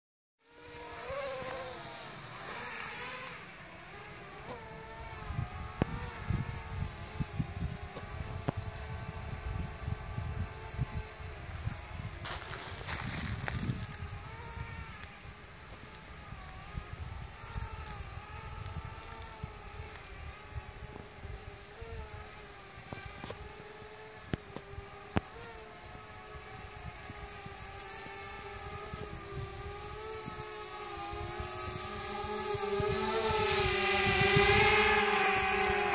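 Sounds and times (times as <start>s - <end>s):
drone propellers buzzing: 0.4s - 35.9s.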